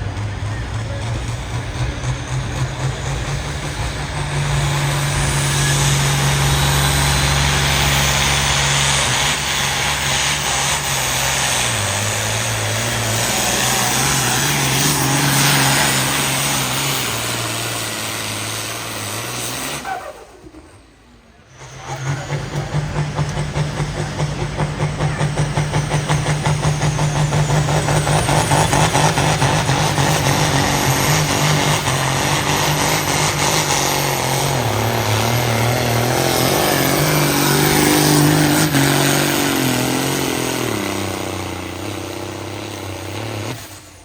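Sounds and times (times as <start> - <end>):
engine running under full load: 0.0 - 44.0.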